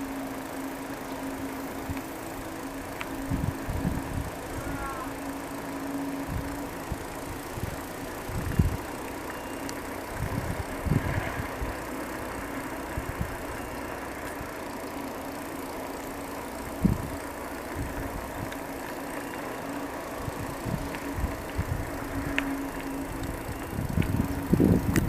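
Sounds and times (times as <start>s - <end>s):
bicycle rolling hum: 0.0s - 25.0s.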